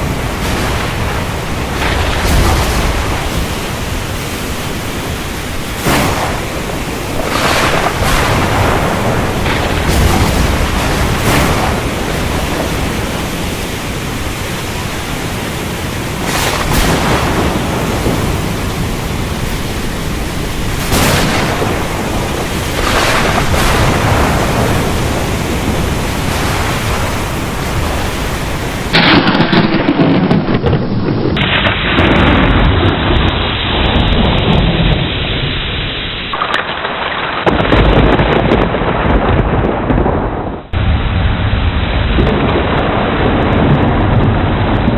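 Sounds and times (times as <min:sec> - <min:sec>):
heavy rain falling: 0:00.0 - 0:44.9
rolling thunder with cracks: 0:00.0 - 0:44.9.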